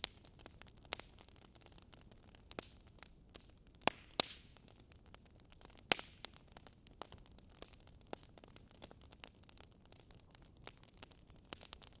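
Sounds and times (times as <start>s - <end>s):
fire crackling and popping: 0.0s - 12.0s
low fire hiss: 0.0s - 12.0s.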